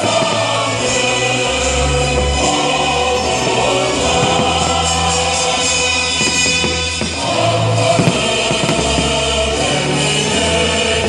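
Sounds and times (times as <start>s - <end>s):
choir-like singing: 0.0s - 11.0s
held bass notes: 0.0s - 11.0s.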